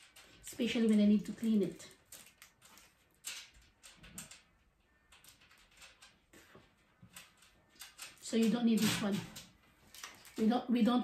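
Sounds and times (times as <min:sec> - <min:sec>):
plastic parts clicking: 0:00.0 - 0:10.6
paper rustling: 0:00.0 - 0:10.9.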